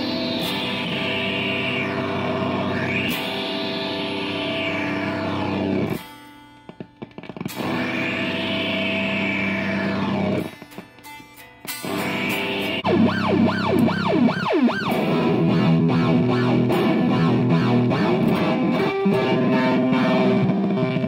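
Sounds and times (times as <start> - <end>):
electric guitar with pitch effect: 0.0 - 21.0.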